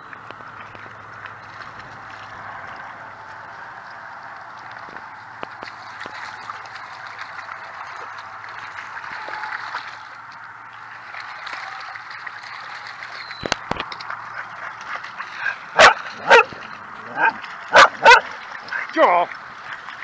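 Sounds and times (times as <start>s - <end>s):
dogs splashing through water: 0.0s - 20.0s.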